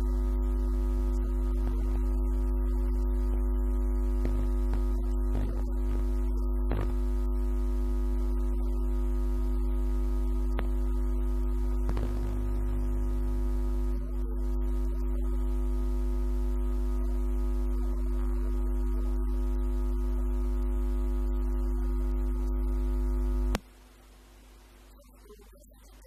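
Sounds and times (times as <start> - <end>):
deep electronic hum with tones: 0.0 - 26.0.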